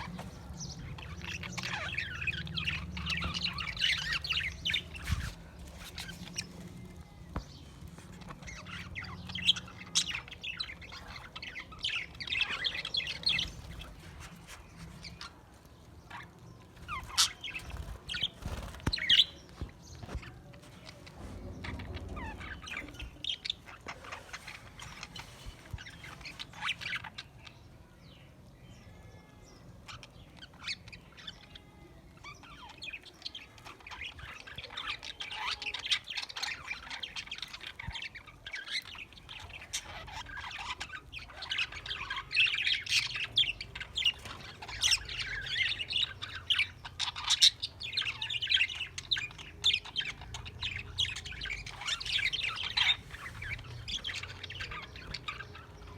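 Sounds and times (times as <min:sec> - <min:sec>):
budgerigars chirping and chattering: 0:00.0 - 0:27.7, 0:29.9 - 0:55.9.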